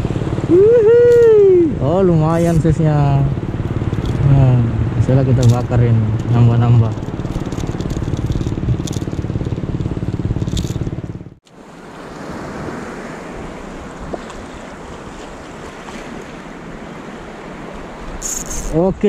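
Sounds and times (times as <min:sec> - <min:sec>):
surf washing on shore: 0:00.0 - 0:09.1, 0:11.4 - 0:19.0
wind buffeting microphone: 0:00.0 - 0:19.0.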